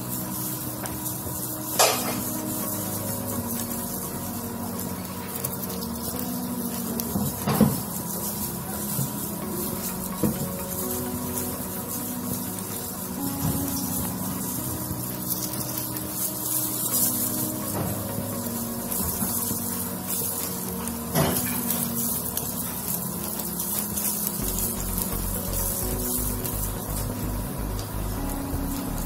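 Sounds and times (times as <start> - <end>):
deep-frying in hot oil sizzling: 0.0 - 29.0
soft background music: 0.0 - 29.0.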